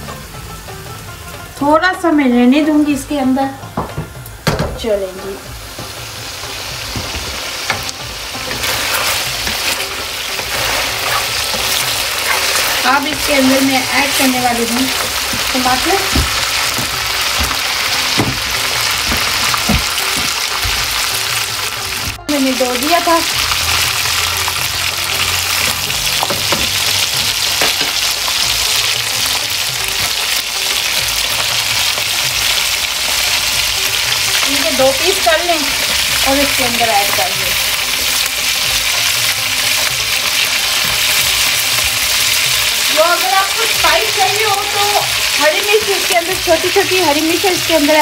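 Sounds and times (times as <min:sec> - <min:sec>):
chicken sizzling in hot oil: 0:04.1 - 0:48.0
spatula scraping and knocking wok: 0:05.6 - 0:22.1, 0:23.4 - 0:46.6.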